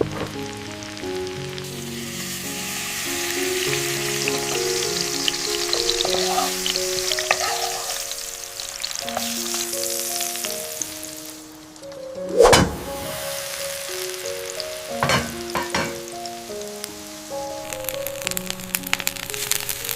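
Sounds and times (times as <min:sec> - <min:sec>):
food sizzling in a pan: 0:00.0 - 0:19.9
gentle melody of held notes: 0:00.0 - 0:19.9.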